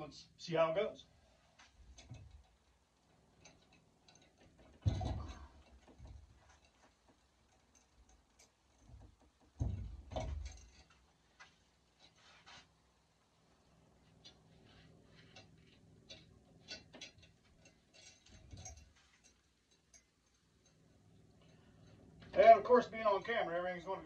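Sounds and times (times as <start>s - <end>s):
rustling: 1.2s - 22.4s.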